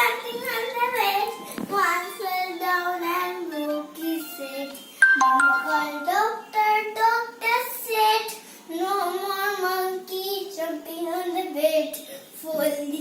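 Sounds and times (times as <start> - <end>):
child singing: 0.0 - 4.8, 5.6 - 13.0.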